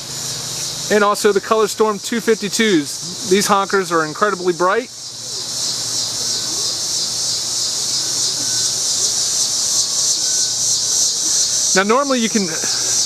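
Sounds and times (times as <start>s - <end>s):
insects shrill drone: 0.0s - 13.0s.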